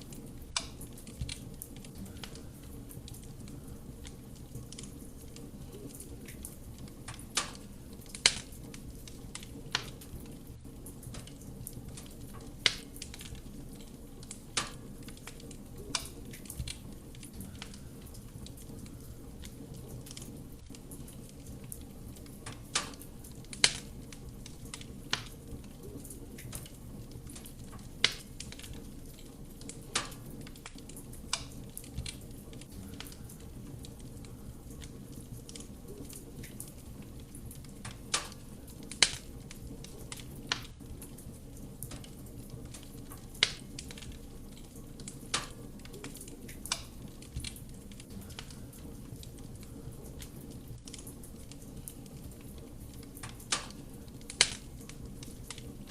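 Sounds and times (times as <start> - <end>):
burning logs crackling and popping: 0.0 - 55.9
fire rumbling: 0.0 - 55.9.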